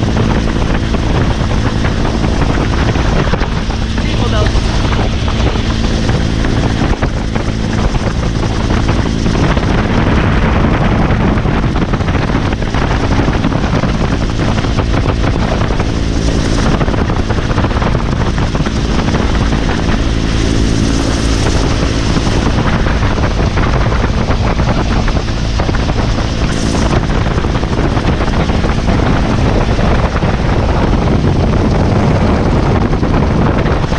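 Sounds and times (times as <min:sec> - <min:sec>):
helicopter rotor and engine drone: 0:00.0 - 0:33.9.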